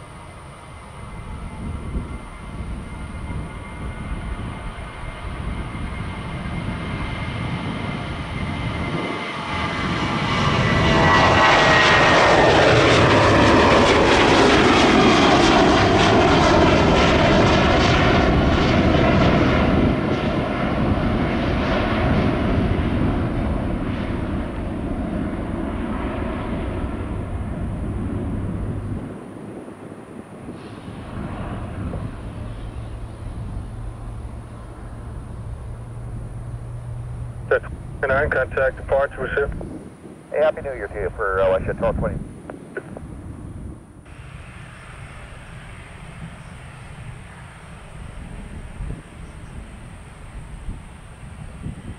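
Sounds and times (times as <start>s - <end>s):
jet airliner passing: 0.0s - 51.9s.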